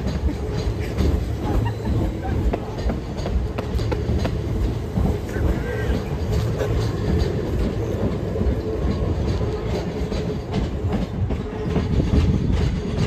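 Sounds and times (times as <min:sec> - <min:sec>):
train wheel rumble: 0:00.0 - 0:13.0
wheels clicking over rail joints: 0:00.0 - 0:13.0.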